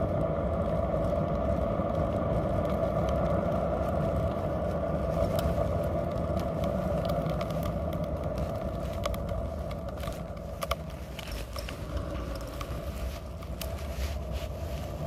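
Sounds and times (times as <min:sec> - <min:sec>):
scooter wheels rolling on asphalt: 0:00.0 - 0:15.0.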